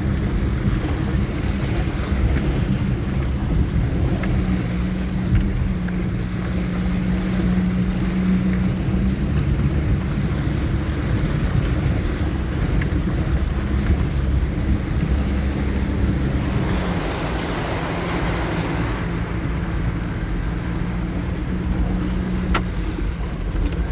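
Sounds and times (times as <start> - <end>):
off-road vehicle engine running: 0.0 - 23.9
water washing around vehicle: 0.0 - 23.9.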